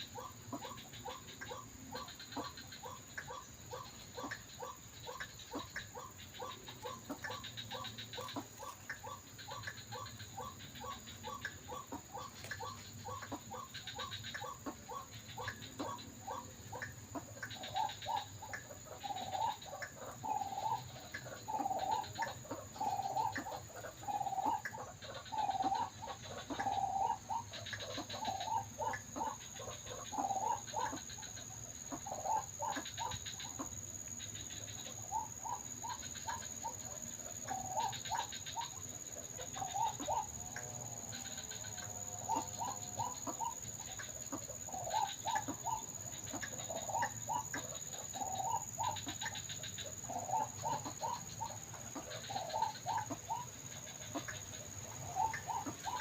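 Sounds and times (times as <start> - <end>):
bird hoarse croaking calls: 0.0 - 56.0.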